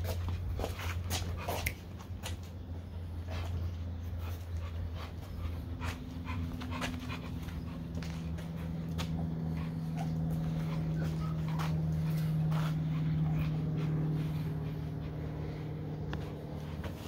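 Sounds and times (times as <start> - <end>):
scuffs: 0.0 - 2.6, 3.3 - 17.0
dog panting: 0.0 - 17.0
low hum: 0.0 - 17.0.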